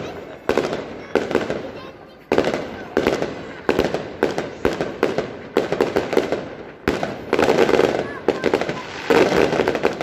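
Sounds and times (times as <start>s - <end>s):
fireworks bangs echoing: 0.0s - 10.0s.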